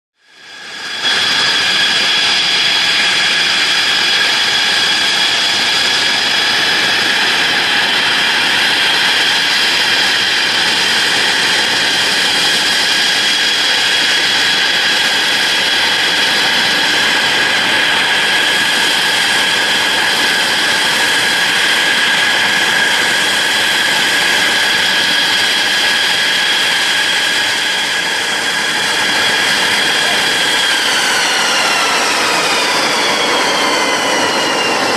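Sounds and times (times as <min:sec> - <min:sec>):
jet engine idling with whine: 0:00.2 - 0:34.9.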